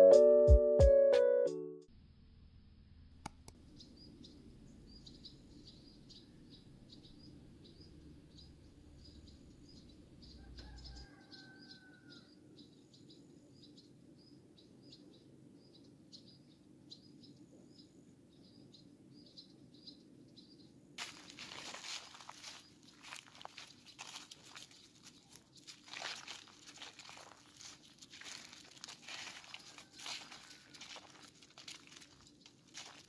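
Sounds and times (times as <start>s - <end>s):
small birds chirping: 3.3s - 33.0s.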